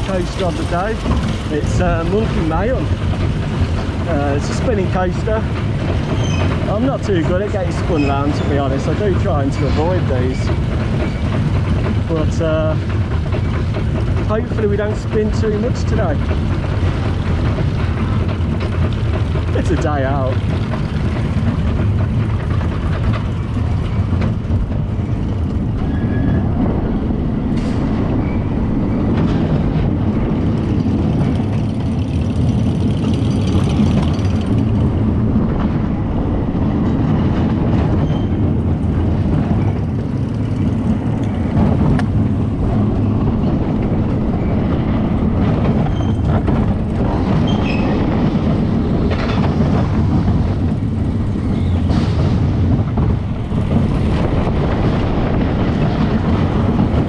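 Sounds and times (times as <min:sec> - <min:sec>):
roller coaster wheels rattling on rails: 0:00.0 - 0:57.0.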